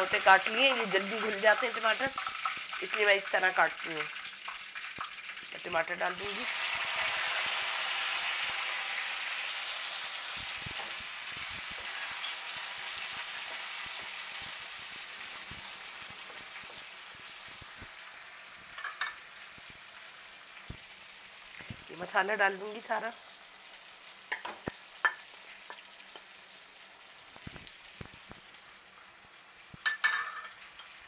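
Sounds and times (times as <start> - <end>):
tomatoes sizzling in hot oil: 0.0 - 31.0.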